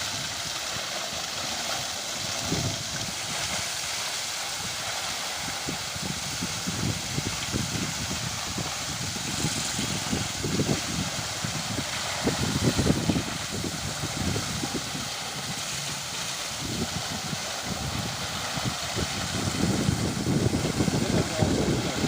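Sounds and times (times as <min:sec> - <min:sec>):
hiss of noise: 0:00.0 - 0:22.0.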